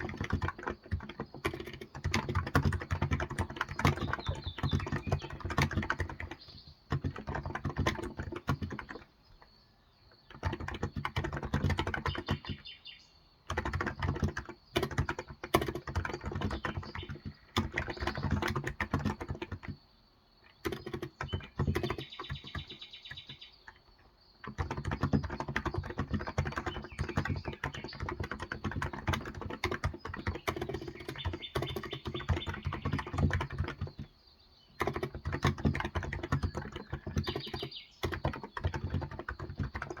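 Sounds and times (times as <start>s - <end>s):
fast typing on keyboard: 0.0s - 9.4s, 10.2s - 12.8s, 13.4s - 19.8s, 20.5s - 40.0s.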